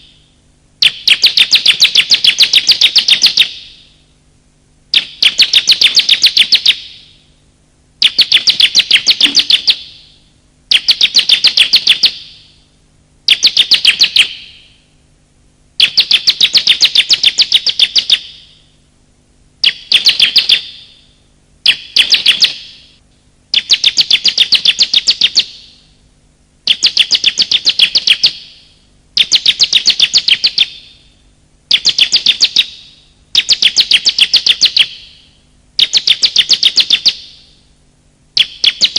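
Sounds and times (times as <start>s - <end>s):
bird rapid high chirping: 0.8s - 4.0s, 4.9s - 7.2s, 8.0s - 12.6s, 13.3s - 14.8s, 15.8s - 18.7s, 19.6s - 25.9s, 26.7s - 31.1s, 31.7s - 37.6s, 38.4s - 38.9s.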